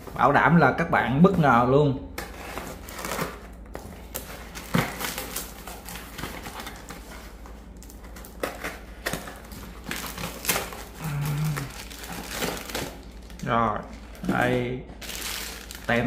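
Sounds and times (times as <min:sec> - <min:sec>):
packaging crinkling and rustling: 0:02.2 - 0:16.0.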